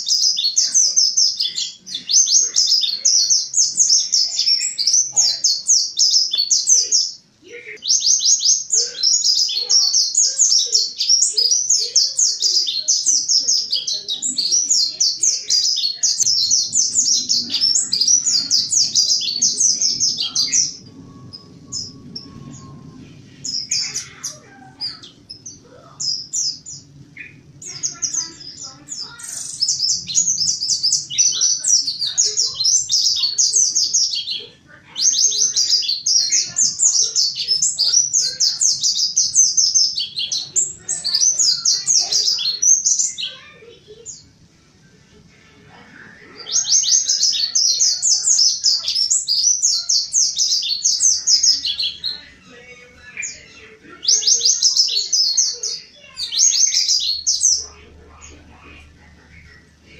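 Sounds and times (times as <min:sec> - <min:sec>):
bird twittering song: 0:00.0 - 0:44.4, 0:46.2 - 0:59.9.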